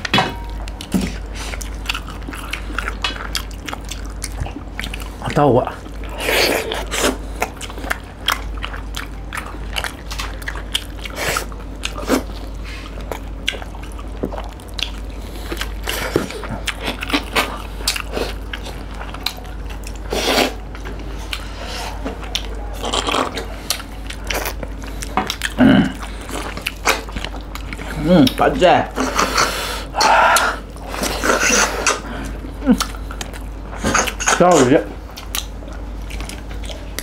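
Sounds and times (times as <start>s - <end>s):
wet chewing and biting: 0.0s - 37.0s.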